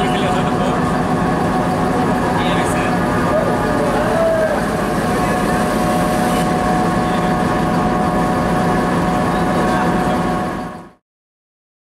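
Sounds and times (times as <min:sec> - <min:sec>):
diesel locomotive idling: 0:00.0 - 0:11.0
steady whine: 0:00.0 - 0:11.0.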